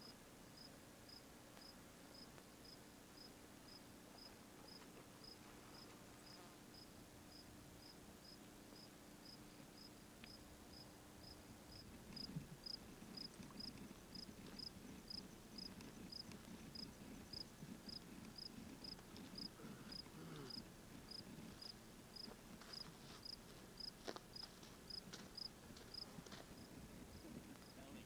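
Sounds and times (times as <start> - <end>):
cricket chirping: 0.6 - 26.7.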